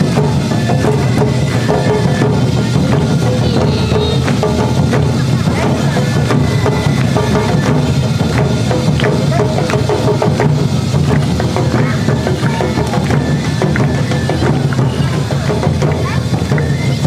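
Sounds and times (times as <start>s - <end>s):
bamboo flute melody: 0.0s - 17.0s
taiko drums: 0.0s - 17.0s.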